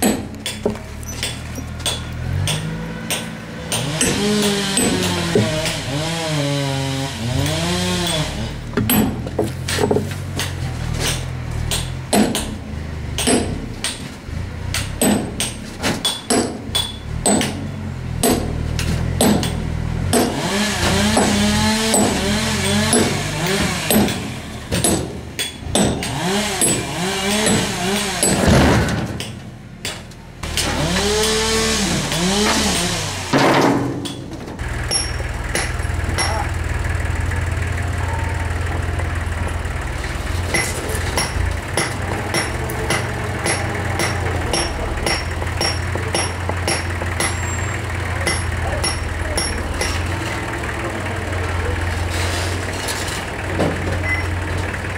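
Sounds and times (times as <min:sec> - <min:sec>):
hammer striking steel wedges: 0:00.0 - 0:06.4, 0:07.4 - 0:36.7, 0:40.5 - 0:50.5
engine running: 0:00.0 - 0:54.9.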